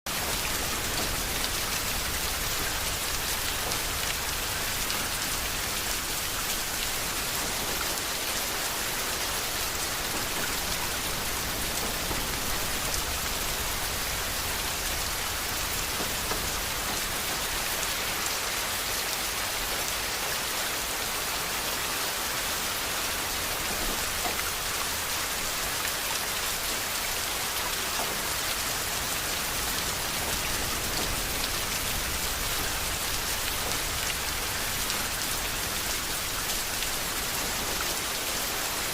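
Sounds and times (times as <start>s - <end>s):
steady rain falling: 0.1s - 38.9s.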